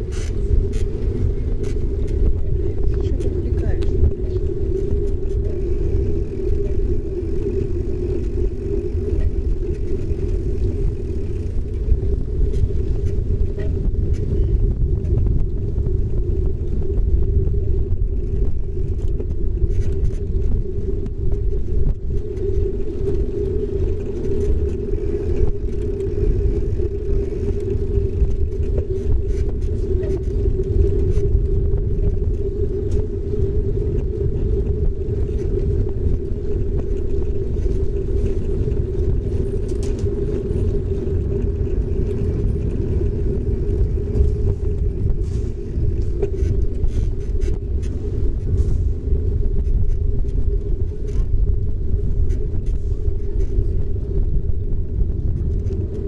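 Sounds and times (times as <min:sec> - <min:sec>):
bicycle tyre rolling on paving: 0:00.0 - 0:56.0
wind on microphone: 0:00.0 - 0:56.0.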